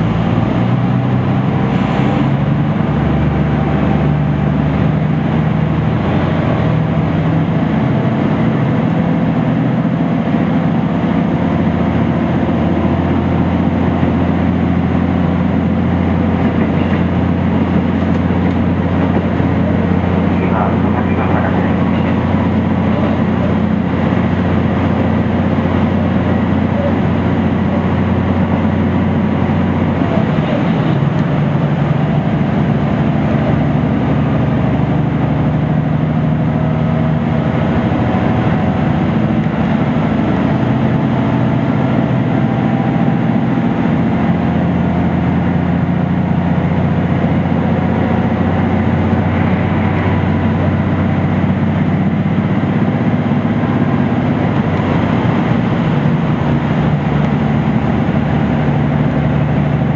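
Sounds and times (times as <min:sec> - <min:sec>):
diesel engine running: 0:00.0 - 0:59.9
train wheels running on rail: 0:00.0 - 0:59.9.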